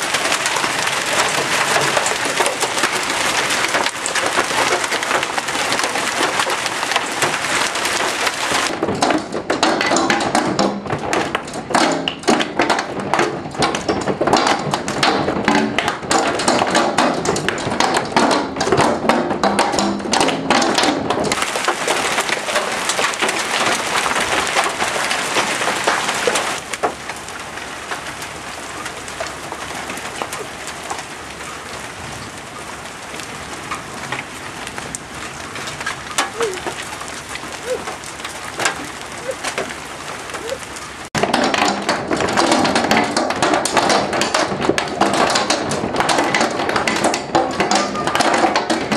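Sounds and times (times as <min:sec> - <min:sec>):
hail pelting down: 0:00.0 - 0:48.9.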